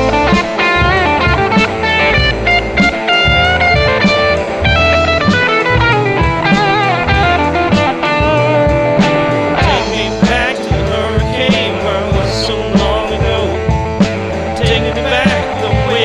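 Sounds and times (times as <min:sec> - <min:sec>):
bass: 0:00.0 - 0:16.0
electric guitar lead: 0:00.0 - 0:16.0
steady drum beat: 0:00.0 - 0:16.0.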